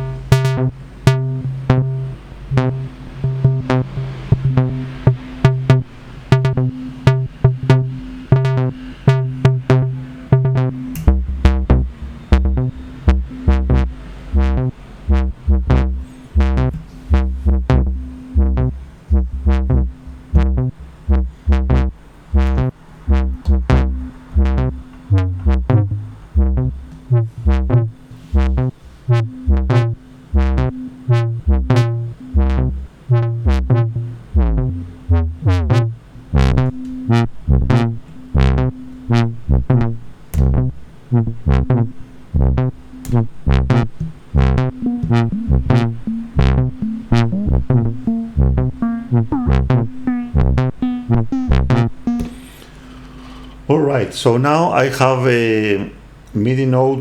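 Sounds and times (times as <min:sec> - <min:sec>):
low synth bass line: 0:00.0 - 0:52.6
synthesizer sequenced pattern: 0:00.0 - 0:53.4.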